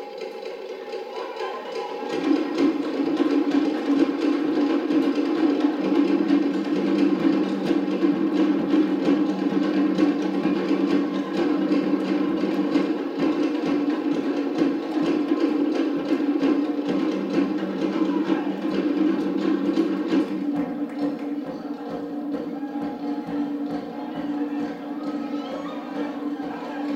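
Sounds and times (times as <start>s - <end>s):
slit log drums beaten fast: 0.0s - 26.9s.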